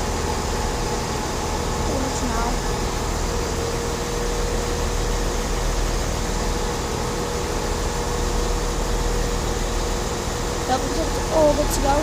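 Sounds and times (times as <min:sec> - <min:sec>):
steady whine: 0:00.0 - 0:12.0
train engine hum: 0:00.0 - 0:12.0.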